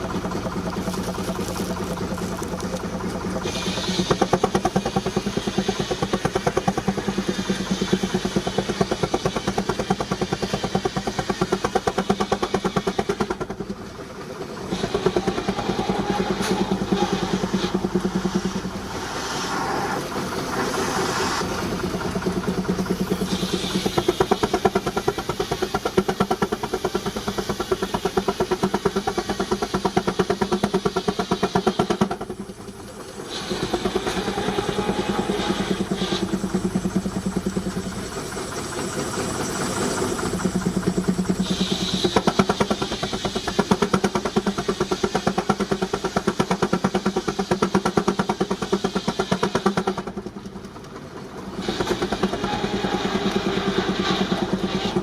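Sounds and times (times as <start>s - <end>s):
rapid exhaust beats: 0.0s - 55.0s
steam traction engine running: 0.0s - 55.0s.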